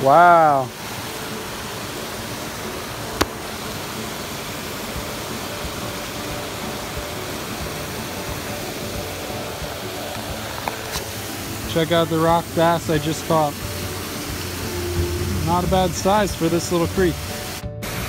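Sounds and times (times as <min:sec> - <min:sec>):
creek running over stones: 0:00.0 - 0:17.6.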